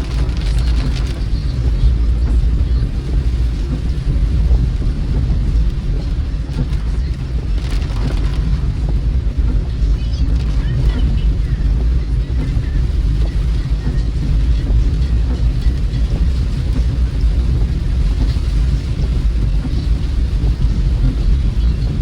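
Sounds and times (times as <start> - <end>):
rain and tyre spray hiss: 0.0 - 22.0
road and engine rumble: 0.0 - 22.0.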